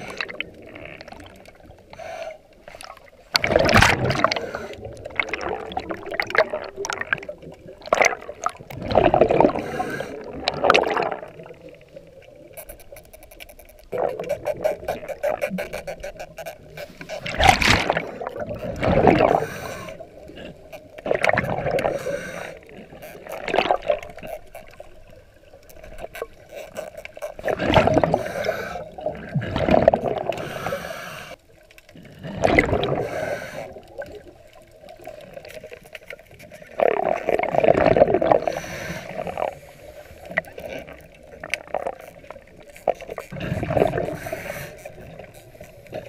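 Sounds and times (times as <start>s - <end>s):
underwater bubbles gurgling: 0.0s - 46.0s.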